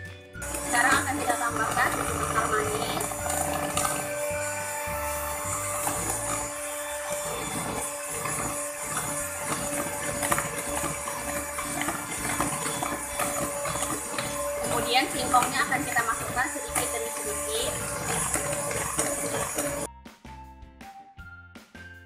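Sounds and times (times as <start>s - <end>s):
electric hand mixer whining: 0.4s - 19.9s.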